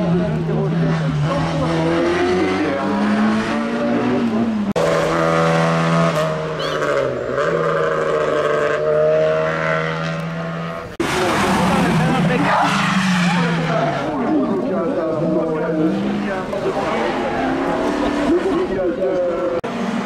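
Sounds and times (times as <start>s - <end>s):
racing car engine accelerating: 0.0s - 14.5s, 15.1s - 20.0s
engine at high revs: 0.0s - 20.0s.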